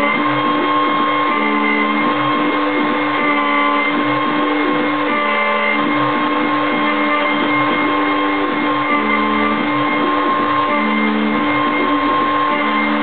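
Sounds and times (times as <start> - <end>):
router motor whining: 0.0 - 13.0
stepper motors humming: 0.0 - 13.0.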